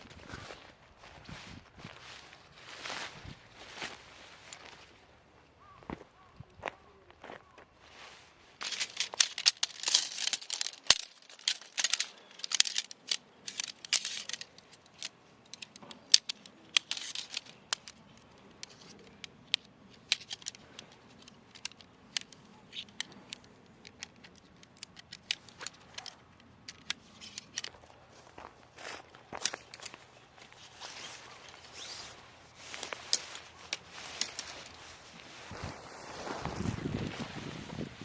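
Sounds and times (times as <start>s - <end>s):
crinkling and rustling: 0.0s - 6.2s, 7.2s - 38.0s.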